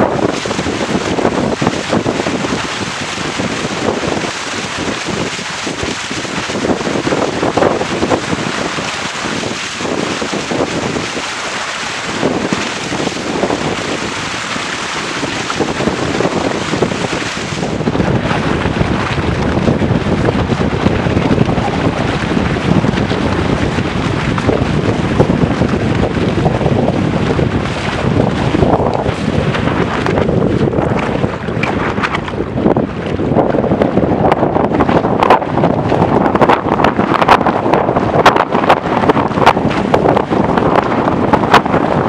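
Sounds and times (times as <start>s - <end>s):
water rushing past hull: 0.0s - 42.0s
wind buffeting microphone: 0.0s - 42.0s.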